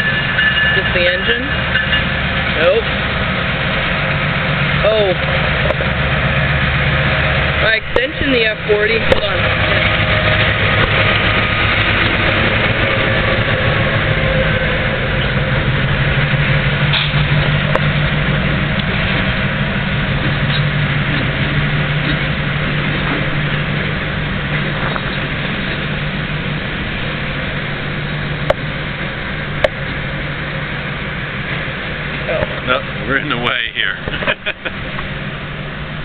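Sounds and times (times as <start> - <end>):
diesel locomotive engine humming: 0.0 - 36.0.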